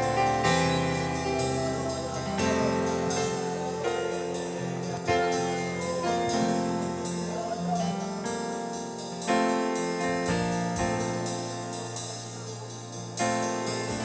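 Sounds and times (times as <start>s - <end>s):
keyboard playing held chords: 0.0s - 14.0s.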